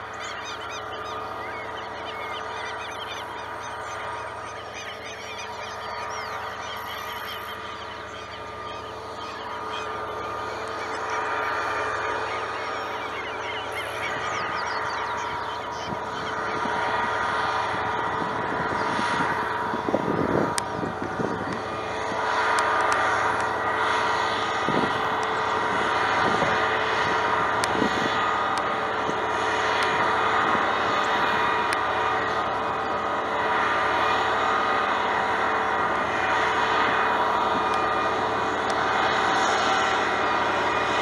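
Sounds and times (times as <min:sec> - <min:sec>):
diesel locomotive running: 0:00.0 - 0:41.0.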